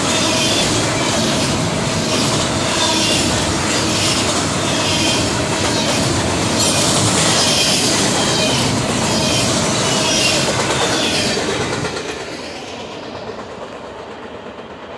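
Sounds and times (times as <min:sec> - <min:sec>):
freight train cars passing: 0:00.0 - 0:14.9.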